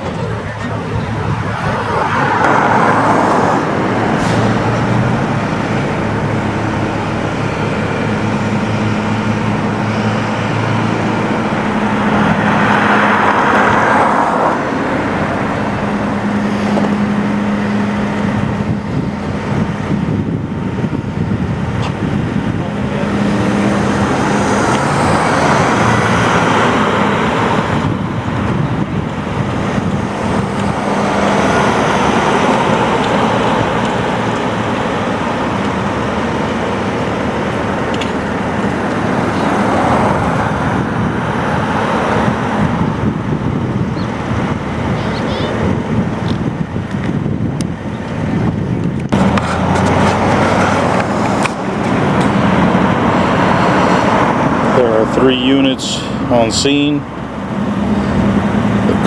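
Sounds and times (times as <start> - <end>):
low engine hum: 0.0 - 59.0
vehicles passing: 0.0 - 59.0.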